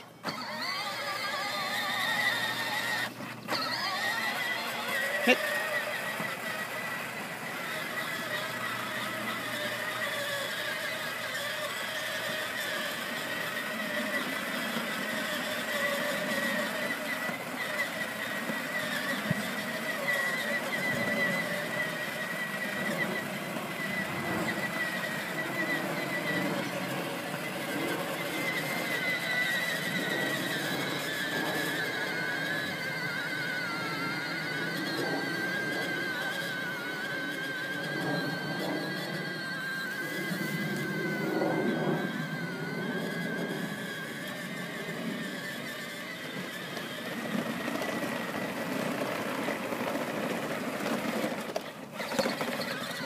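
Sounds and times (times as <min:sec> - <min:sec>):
electric ride-on car motors whining: 0:00.0 - 0:53.0.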